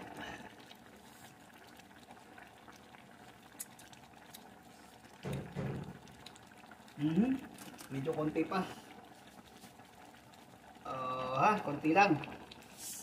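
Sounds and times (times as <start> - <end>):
broth bubbling with small pops: 0.0 - 13.0.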